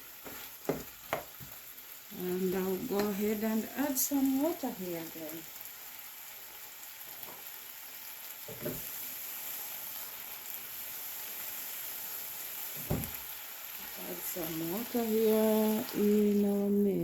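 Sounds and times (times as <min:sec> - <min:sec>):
stew pot sizzling: 0:00.0 - 0:17.0.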